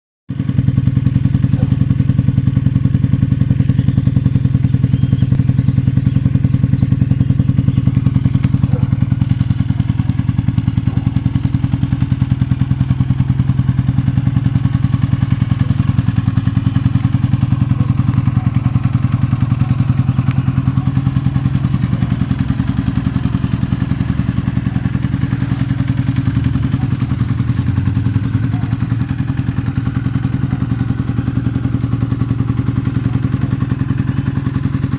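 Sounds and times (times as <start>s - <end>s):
motorcycle engine running: 0.3s - 34.9s.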